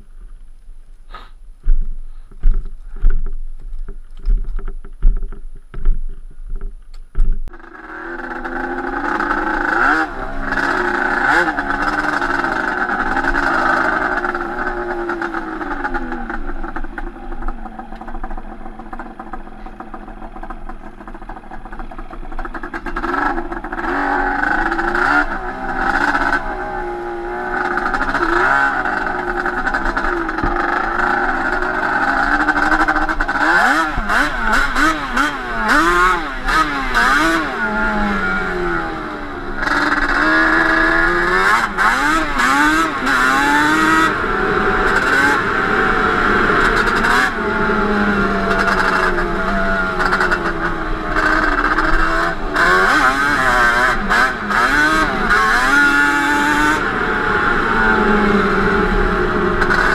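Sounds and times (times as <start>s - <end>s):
two-stroke quad engine revving: 7.4s - 59.9s.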